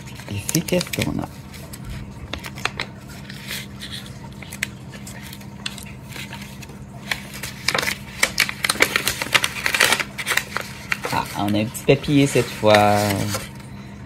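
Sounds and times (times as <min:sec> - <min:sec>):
wrapping rustling and crinkling: 0:00.0 - 0:13.8.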